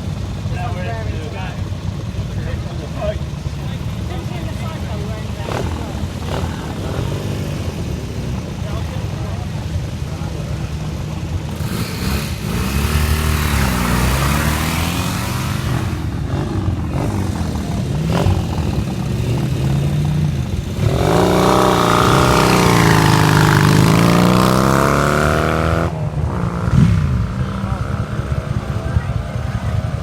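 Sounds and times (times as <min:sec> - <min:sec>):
motorcycle engine revved hard: 0:00.0 - 0:30.0
motorcycle engines running: 0:00.0 - 0:30.0
motorcycle throttle blips: 0:01.6 - 0:30.0.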